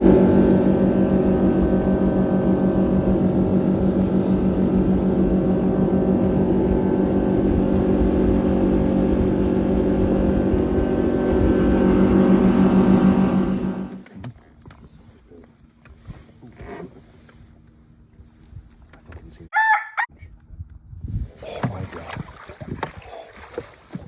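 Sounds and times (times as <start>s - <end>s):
outboard motor running: 0.0s - 19.5s.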